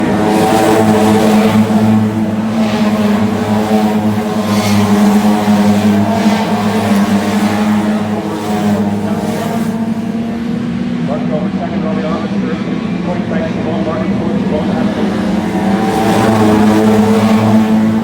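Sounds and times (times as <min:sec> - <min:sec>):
cars whooshing past: 0:00.0 - 0:11.1, 0:13.5 - 0:18.0
race car engine drone: 0:00.0 - 0:18.0.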